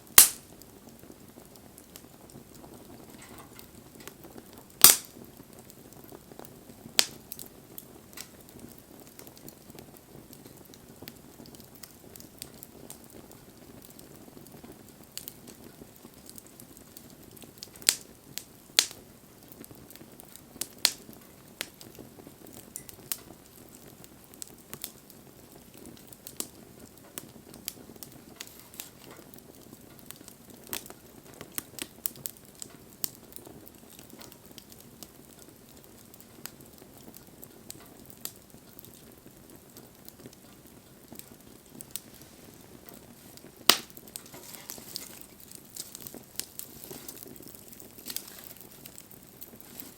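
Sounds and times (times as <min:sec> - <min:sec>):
bonfire crackling: 0:00.0 - 0:49.9
faint steady hiss: 0:00.0 - 0:49.9.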